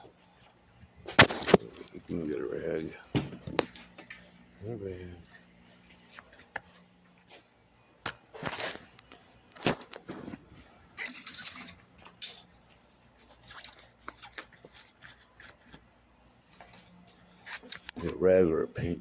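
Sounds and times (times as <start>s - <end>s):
rustling of handled objects: 0.0s - 18.2s.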